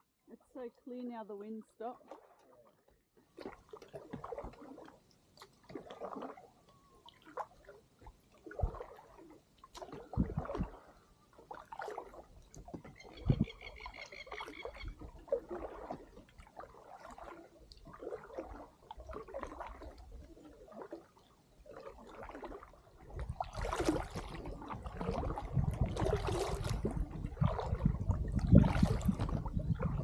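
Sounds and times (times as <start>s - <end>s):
paddle splashing in water: 1.5s - 30.0s.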